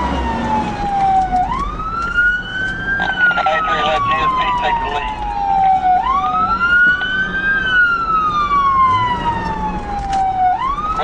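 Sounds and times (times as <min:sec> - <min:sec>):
engine and road noise: 0:00.0 - 0:11.0
police siren wailing: 0:00.0 - 0:11.0.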